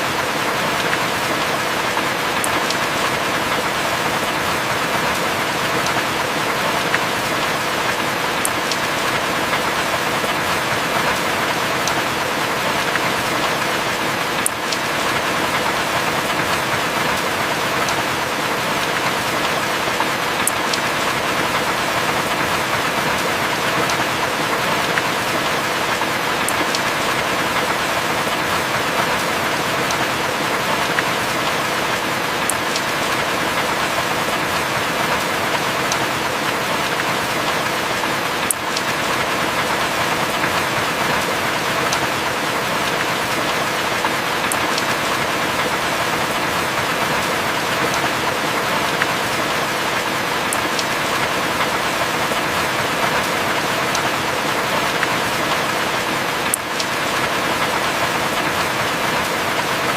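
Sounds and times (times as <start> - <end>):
heavy rain on wooden cabin: 0.0 - 59.9
sharp raindrop ticks: 0.0 - 59.9.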